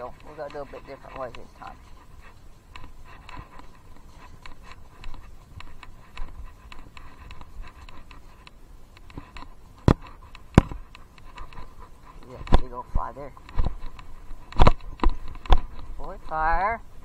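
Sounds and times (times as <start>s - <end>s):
camera rattling in its mount: 0.0s - 12.7s, 13.4s - 16.0s.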